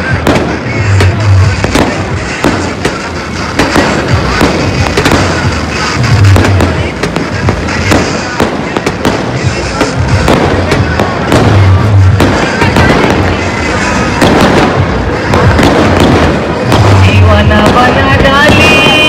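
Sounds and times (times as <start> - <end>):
fireworks cracking and banging: 0.0 - 19.0
loud music: 0.0 - 19.0.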